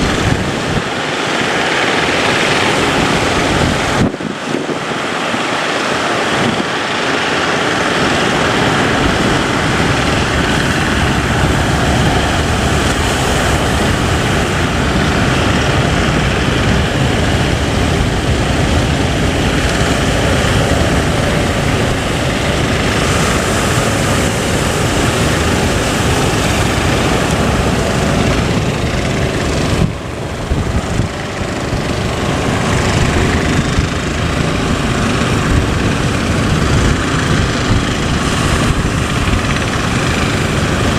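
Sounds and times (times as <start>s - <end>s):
boat engine running: 0.0s - 40.9s
heavy wind: 0.0s - 40.9s
rushing sea water: 0.0s - 40.9s.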